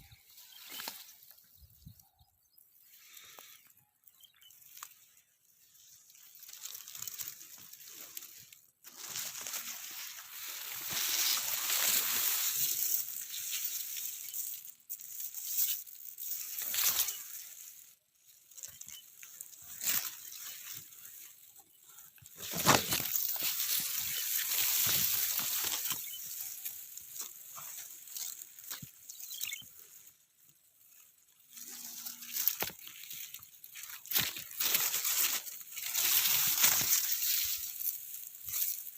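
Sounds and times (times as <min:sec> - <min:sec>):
wind rustling dry wheat: 0:00.0 - 0:38.9.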